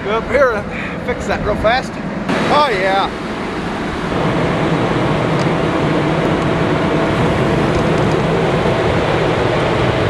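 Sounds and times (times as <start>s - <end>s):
combine engine and fan running: 0.0s - 10.0s.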